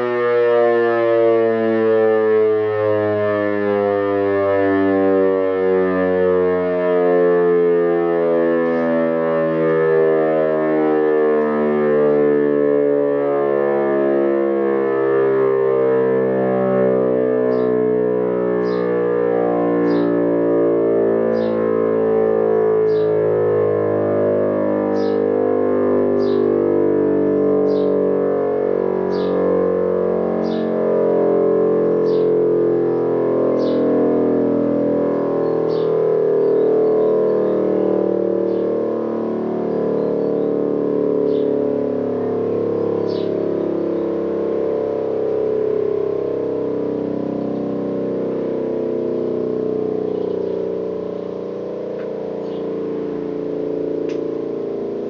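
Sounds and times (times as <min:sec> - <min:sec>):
electromechanical siren droning: 0:00.0 - 0:55.0.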